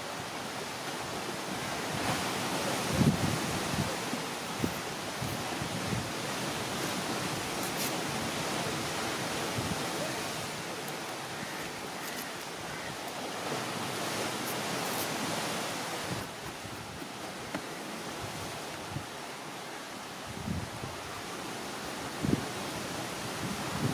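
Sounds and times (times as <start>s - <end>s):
sea surf rushing: 0.0s - 23.9s
wind on microphone: 1.6s - 19.2s, 20.2s - 23.9s.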